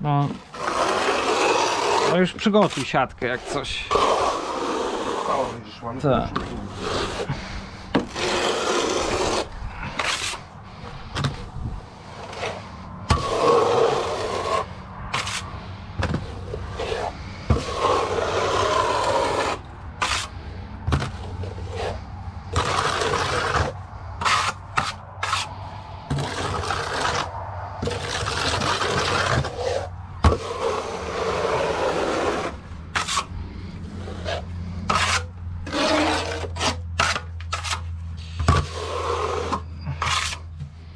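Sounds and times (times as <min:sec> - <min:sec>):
trowel scraping render: 0:00.1 - 0:40.9.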